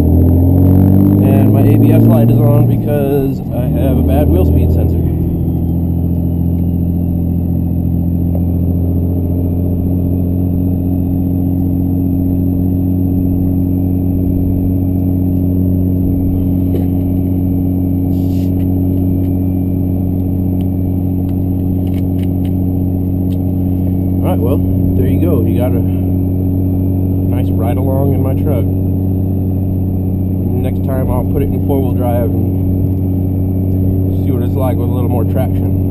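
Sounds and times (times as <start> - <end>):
diesel pickup engine droning: 0.0 - 35.9.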